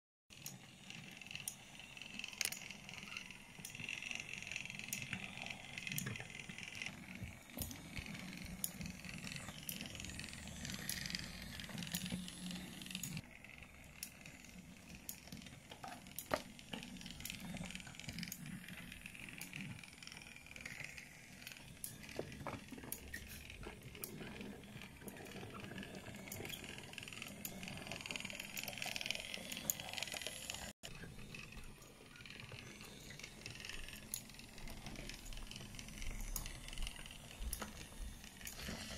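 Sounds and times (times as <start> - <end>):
toy train motor whirring: 0.3 - 38.9
wheels clicking over track joints: 0.4 - 38.9.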